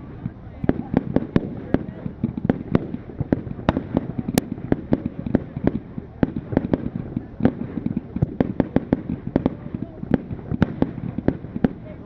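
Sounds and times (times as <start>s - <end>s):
firework bangs: 0.0s - 12.0s.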